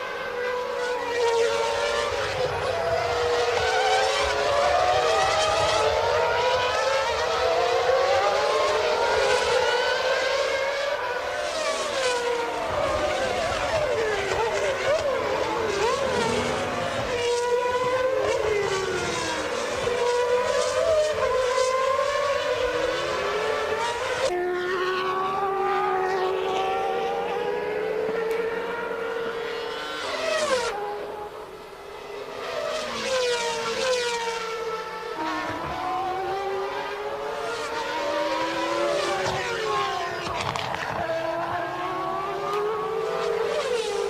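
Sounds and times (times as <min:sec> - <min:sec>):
race car engines at high revs: 0:00.0 - 0:44.0.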